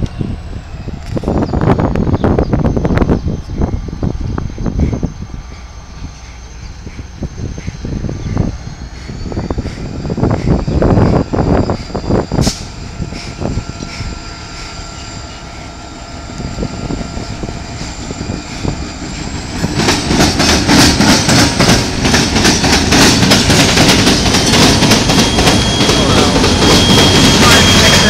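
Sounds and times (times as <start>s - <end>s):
diesel locomotive engine: 0.0s - 28.0s.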